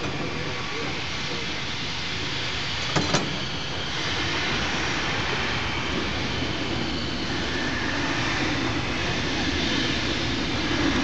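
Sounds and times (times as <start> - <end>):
train rolling along track: 0.0 - 11.0.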